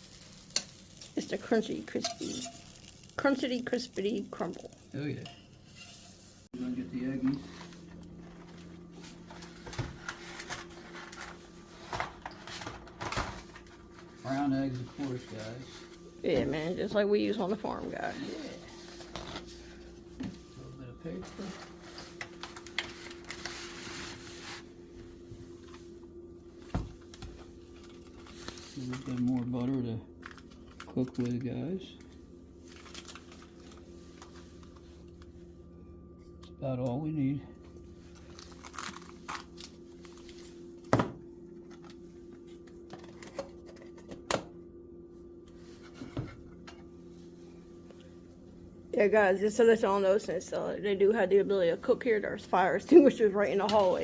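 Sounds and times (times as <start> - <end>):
steady electric hum: 0.0 - 54.0.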